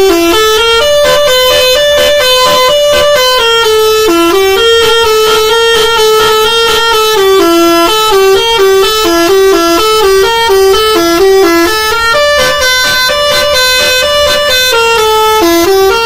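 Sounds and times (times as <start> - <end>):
horn-like tune: 0.0 - 16.0.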